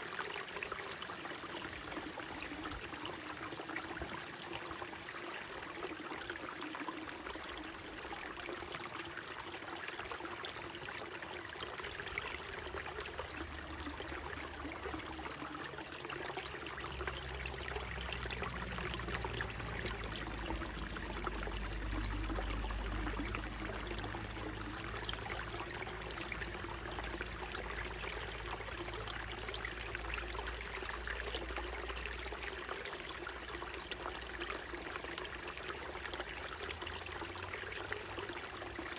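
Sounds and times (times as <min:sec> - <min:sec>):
stream trickling over rocks: 0:00.0 - 0:38.9.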